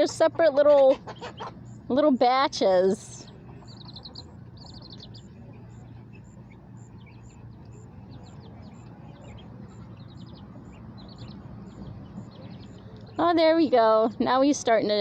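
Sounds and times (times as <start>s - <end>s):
chicks and ducklings peeping: 0.0s - 15.0s.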